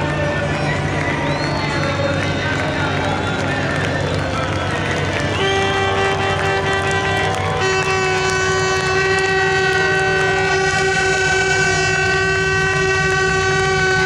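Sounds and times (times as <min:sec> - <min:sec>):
long horn blast: 0:00.0 - 0:14.0
low steady rumble: 0:00.0 - 0:14.0.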